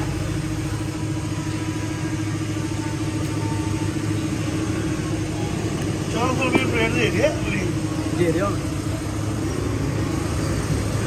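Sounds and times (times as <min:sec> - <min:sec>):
road traffic engine hum: 0:00.0 - 0:11.0.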